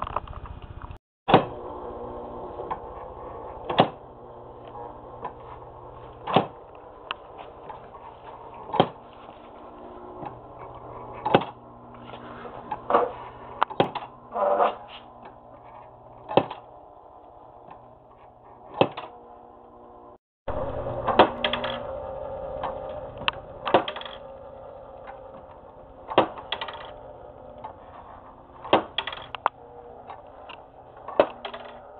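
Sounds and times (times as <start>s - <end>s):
mechanical hum: 0.0s - 31.9s.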